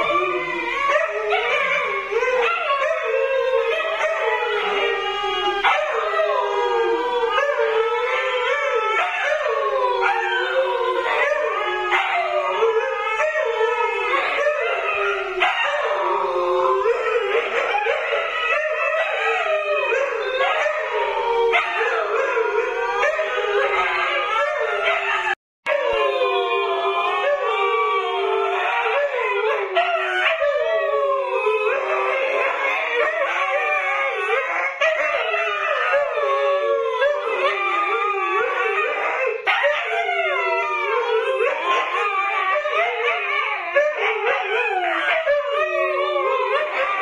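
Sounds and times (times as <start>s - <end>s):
dogs howling together: 0.0s - 47.0s.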